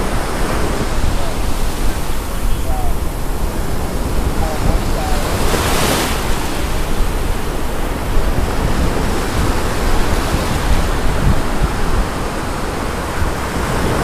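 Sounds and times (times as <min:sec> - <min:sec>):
ocean surf: 0:00.0 - 0:14.0
wind on microphone: 0:00.0 - 0:14.0.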